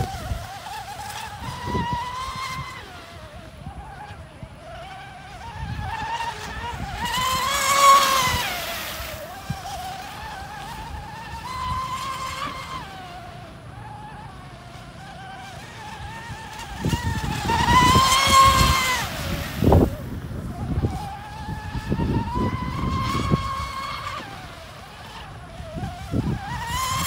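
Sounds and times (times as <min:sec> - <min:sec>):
rc speedboat motor whining: 0:00.0 - 0:27.0.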